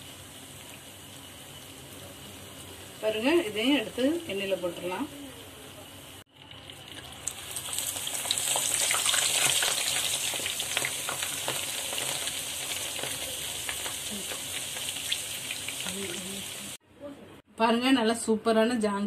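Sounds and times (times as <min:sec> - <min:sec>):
batter sizzling in hot oil: 0:00.0 - 0:16.8.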